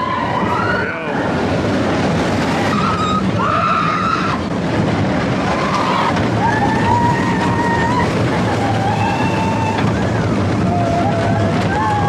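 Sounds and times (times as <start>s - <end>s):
riders screaming: 0.0s - 1.3s, 2.6s - 4.5s, 5.4s - 12.0s
roller coaster rumble and clatter: 0.0s - 12.0s.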